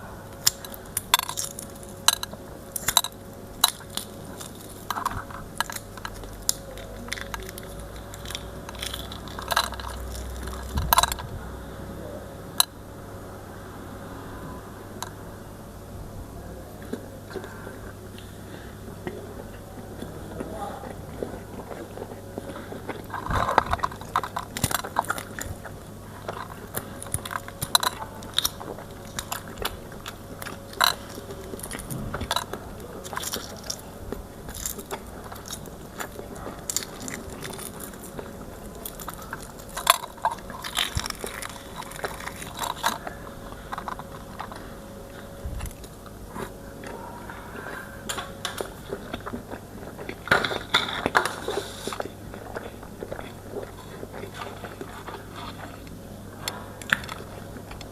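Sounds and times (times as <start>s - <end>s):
person chewing food: 0.0s - 12.8s, 16.7s - 57.9s.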